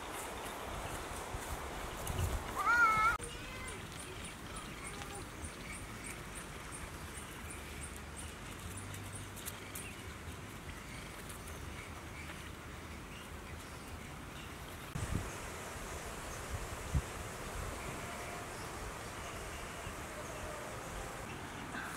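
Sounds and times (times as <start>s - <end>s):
steady low hiss: 0.0s - 21.9s.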